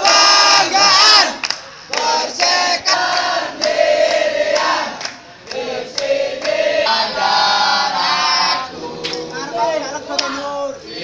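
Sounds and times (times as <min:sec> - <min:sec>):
football supporters chanting: 0:00.0 - 0:11.0.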